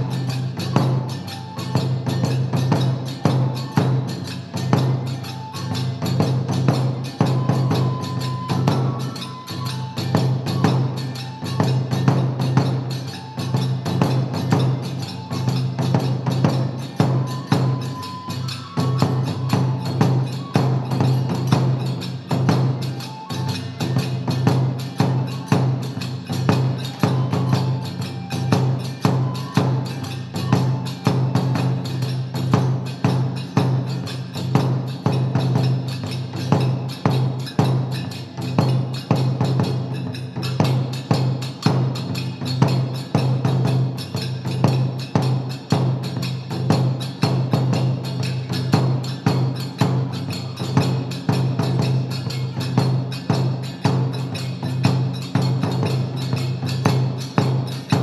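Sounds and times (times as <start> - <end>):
drum beats: 0.0 - 58.0.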